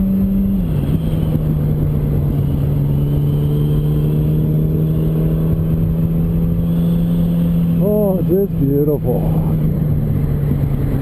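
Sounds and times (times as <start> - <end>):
wind noise: 0.0 - 7.8, 8.5 - 11.0
motorcycle engine running: 0.0 - 11.0.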